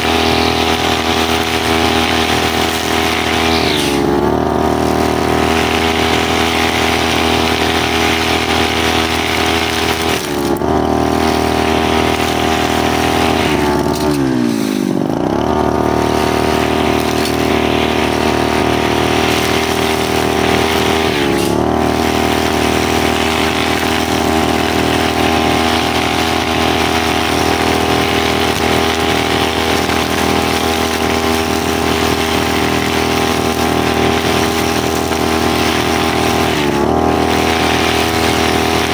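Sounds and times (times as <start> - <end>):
brushcutter engine revving: 0.0 - 38.9.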